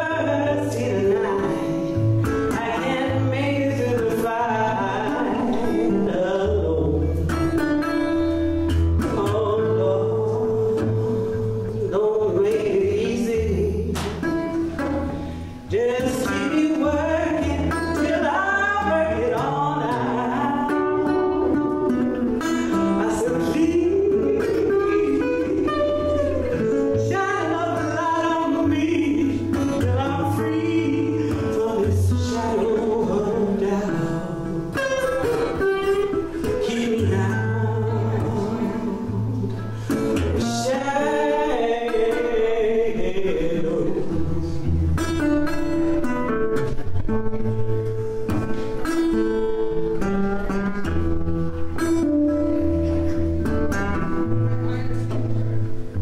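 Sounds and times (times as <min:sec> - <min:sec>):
woman singing: 0:00.0 - 0:46.0
slide guitar: 0:00.0 - 0:56.0.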